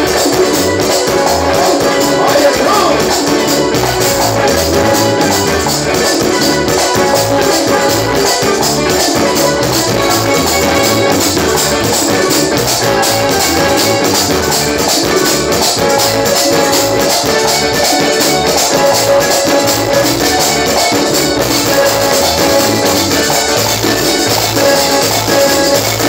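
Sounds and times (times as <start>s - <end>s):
acoustic guitars: 0.0s - 26.0s
congas: 0.0s - 26.0s
keyboard: 0.0s - 26.0s
steady percussion beat: 0.0s - 26.0s.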